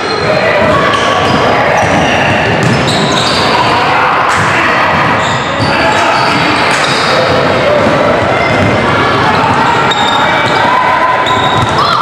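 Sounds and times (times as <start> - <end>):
people calling out: 0.0 - 12.0.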